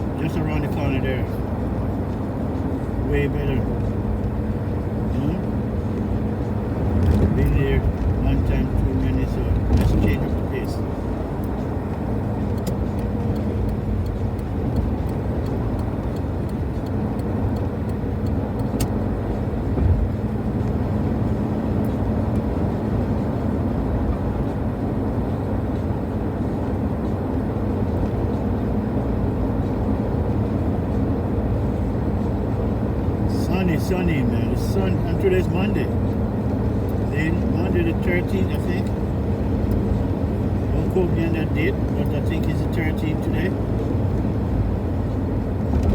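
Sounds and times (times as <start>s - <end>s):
car engine hum: 0.0s - 45.9s.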